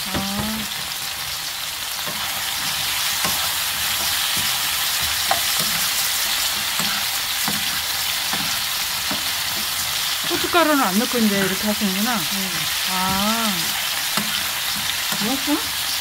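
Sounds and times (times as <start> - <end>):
pumpkin sizzling in oil: 0.0 - 16.0
metal spoon scraping a pan: 1.9 - 11.8, 12.6 - 16.0.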